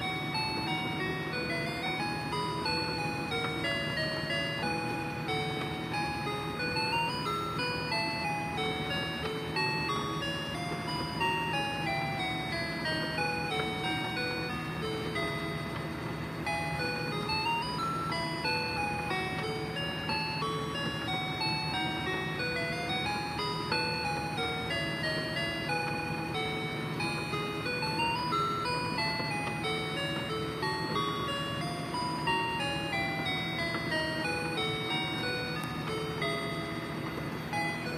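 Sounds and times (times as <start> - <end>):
electronic toy melody: 0.0 - 37.9
steady low hum: 0.0 - 37.9.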